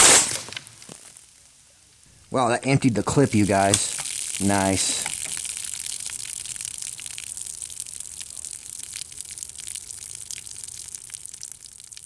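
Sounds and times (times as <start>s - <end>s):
soda fizzing and trickling: 2.1s - 12.0s.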